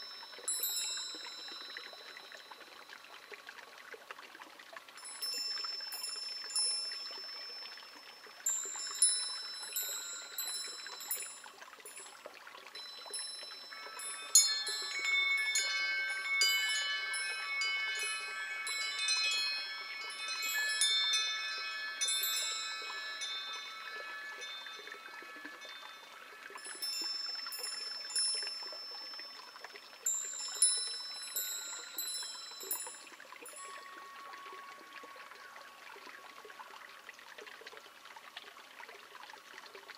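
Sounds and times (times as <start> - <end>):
wind chimes ringing: 0.0 - 3.5, 5.0 - 36.8
water trickling: 0.0 - 39.9.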